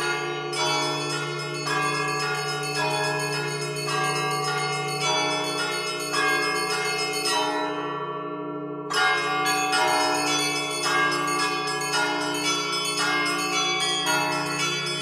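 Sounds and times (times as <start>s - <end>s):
large bells humming: 0.0s - 7.9s, 8.9s - 15.0s
small church bells ringing: 0.0s - 15.0s.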